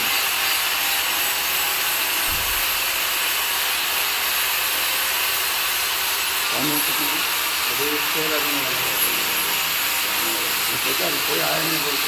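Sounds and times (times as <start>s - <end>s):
angle grinder grinding metal pipe: 0.0s - 12.0s.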